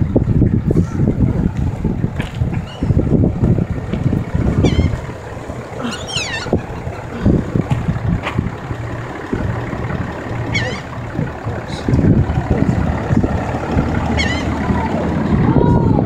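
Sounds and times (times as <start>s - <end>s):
wind buffeting microphone: 0.0s - 16.0s
gulls calling: 2.4s - 16.0s.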